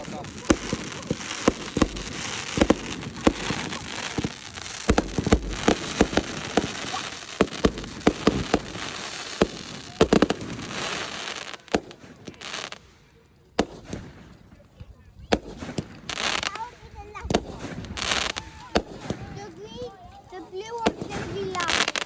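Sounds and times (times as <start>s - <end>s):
fireworks bangs: 0.0s - 22.0s
fireworks crackle: 0.0s - 22.0s.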